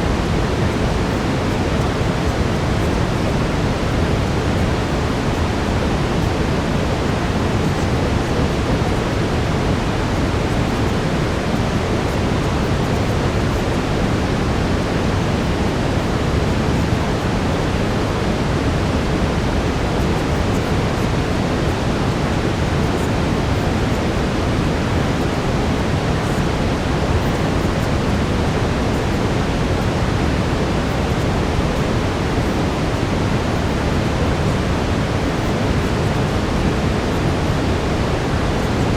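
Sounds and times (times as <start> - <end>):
brown noise hiss: 0.0 - 38.9.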